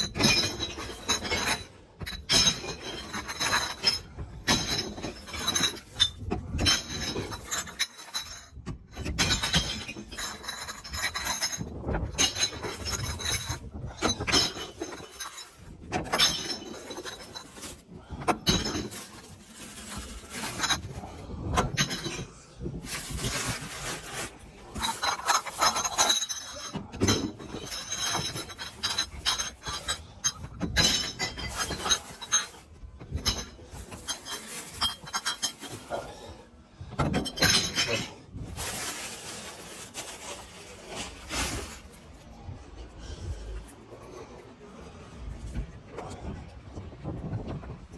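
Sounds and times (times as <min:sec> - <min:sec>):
noisy glass rattle: 0:00.0 - 0:40.2
glass bottles clinking in bin: 0:00.0 - 0:42.0.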